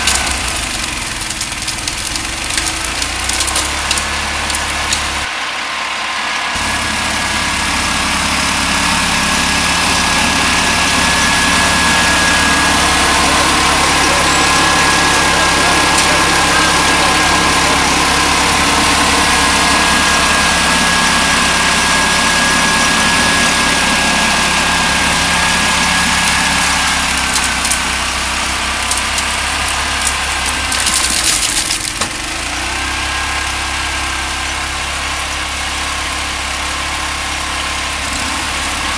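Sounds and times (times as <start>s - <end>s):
impeller whine: 0.0s - 34.1s
snow blower engine running: 0.0s - 38.9s.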